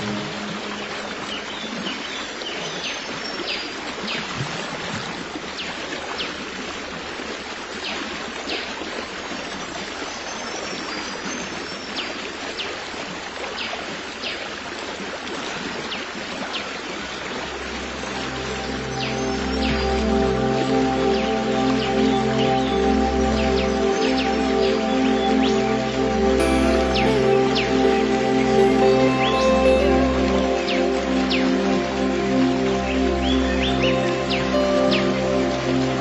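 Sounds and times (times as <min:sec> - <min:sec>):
stream flowing: 0:00.0 - 0:36.0.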